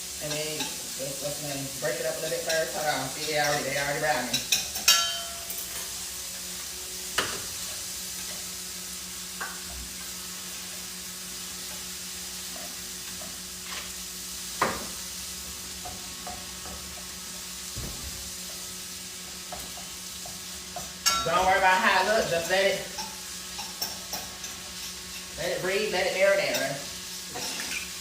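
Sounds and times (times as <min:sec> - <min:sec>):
chicken sizzling in pan: 0:00.0 - 0:28.0.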